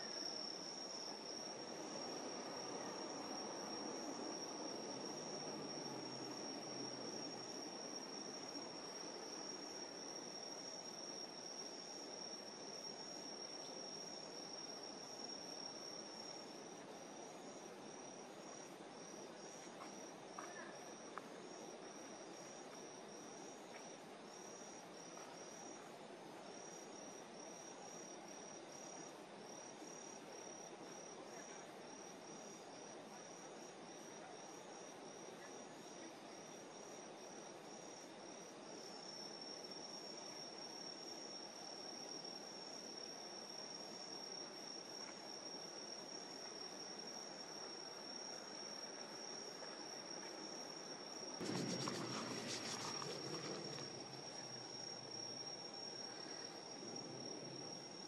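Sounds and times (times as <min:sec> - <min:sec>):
crickets trilling and chirping: 0:00.0 - 0:58.0
faint outdoor hiss: 0:00.0 - 0:58.0.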